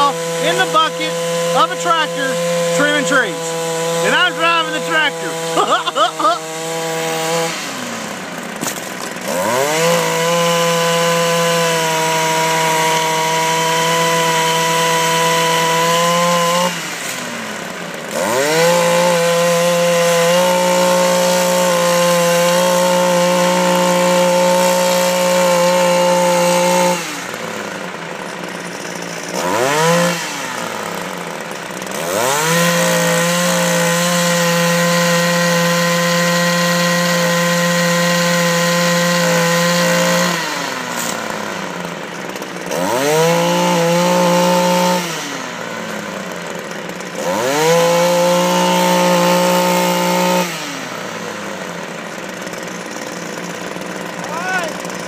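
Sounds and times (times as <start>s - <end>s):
pole saw engine revving: 0.0s - 55.0s.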